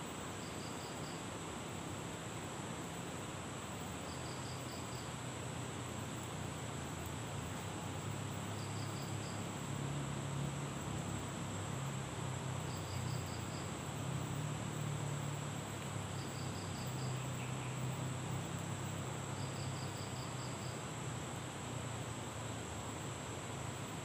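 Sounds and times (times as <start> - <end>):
insects droning: 0.0 - 24.0
rapid insect chirps: 0.0 - 24.0.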